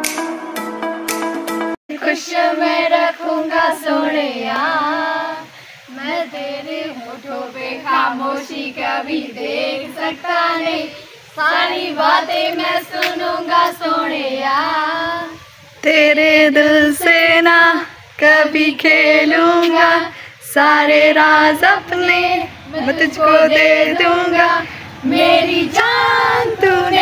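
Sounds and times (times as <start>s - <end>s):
group of women singing unaccompanied: 1.9s - 27.0s.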